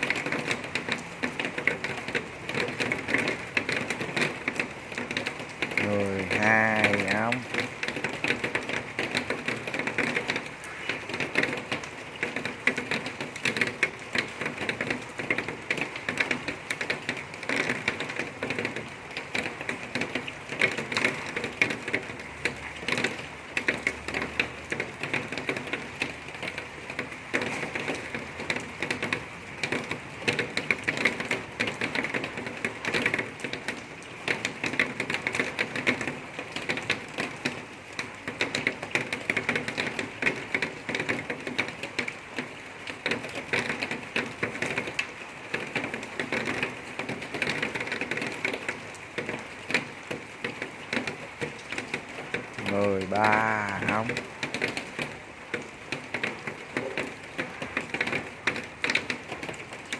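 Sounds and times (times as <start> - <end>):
rain on a hard surface: 0.0 - 59.9.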